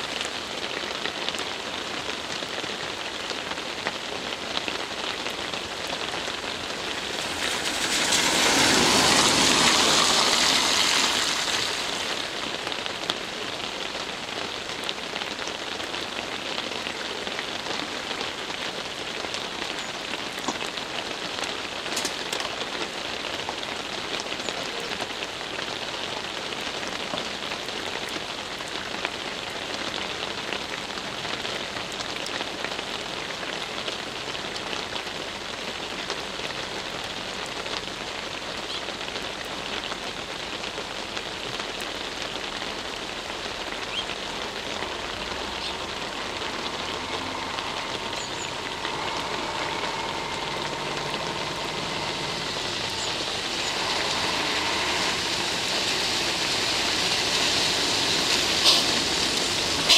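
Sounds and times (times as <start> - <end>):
car tyres hissing on wet road: 0.0 - 59.9
rain on road and foliage: 0.0 - 59.9.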